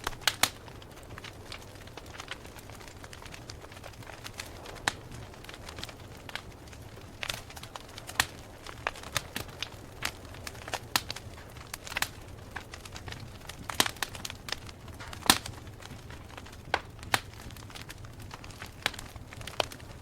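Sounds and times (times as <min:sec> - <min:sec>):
campfire crackling and popping: 0:00.0 - 0:20.0
low steady fire rumble: 0:00.0 - 0:20.0.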